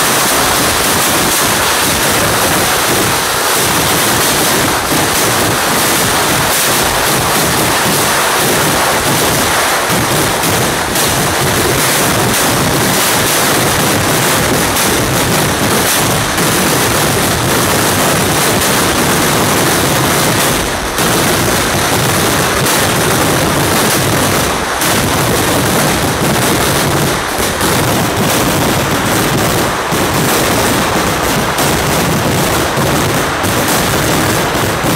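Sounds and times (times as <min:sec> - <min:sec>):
fireworks crackling barrage: 0:00.0 - 0:34.9.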